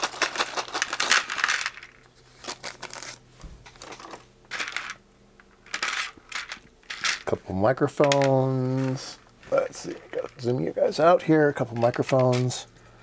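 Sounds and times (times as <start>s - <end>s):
small parts clattering: 0.0s - 12.8s.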